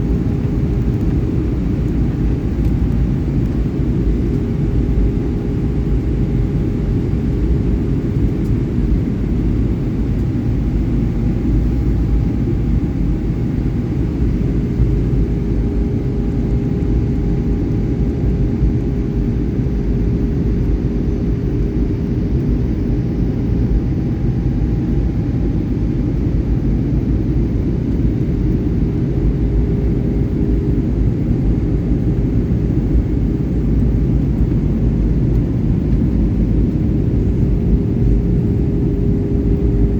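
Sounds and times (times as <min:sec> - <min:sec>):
airliner engines rumbling: 0:00.0 - 0:39.9
faint steady hum: 0:00.0 - 0:39.9.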